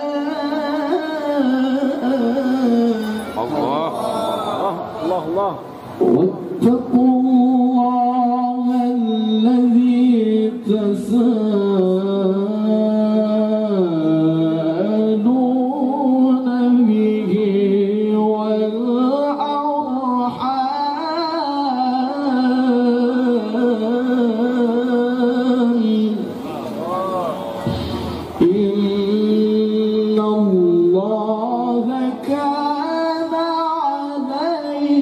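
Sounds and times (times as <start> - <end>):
man reciting melodically: 0.0 - 35.0.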